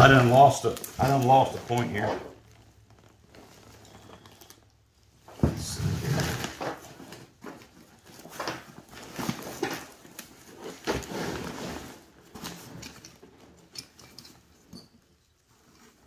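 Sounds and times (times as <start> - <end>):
fabric and webbing rustling: 0.0 - 16.0.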